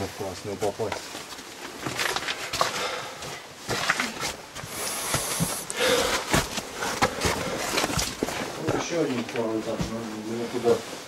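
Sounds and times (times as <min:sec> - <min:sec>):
rustle of overalls: 0:00.0 - 0:11.0
boots stepping on rubble: 0:00.9 - 0:10.2.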